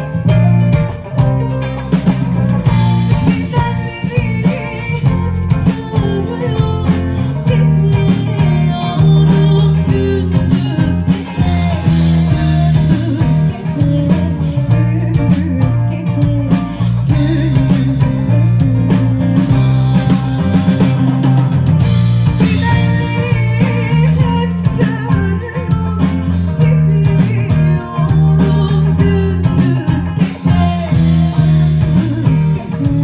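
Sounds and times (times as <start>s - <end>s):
bass guitar: 0.0s - 33.0s
drum kit: 0.0s - 33.0s
electric guitar: 0.0s - 33.0s
woman singing into a microphone: 2.6s - 33.0s.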